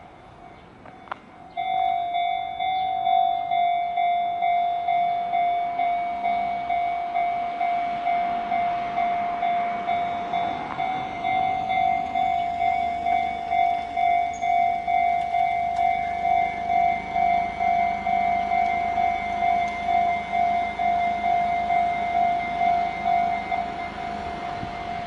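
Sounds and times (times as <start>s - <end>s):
level crossing warning bell: 0.0s - 25.0s.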